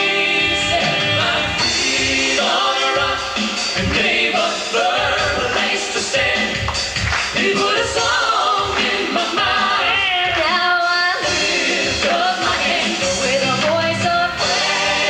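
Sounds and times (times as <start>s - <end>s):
gospel group singing in harmony: 0.0s - 15.0s
instrumental accompaniment with beat: 0.0s - 15.0s.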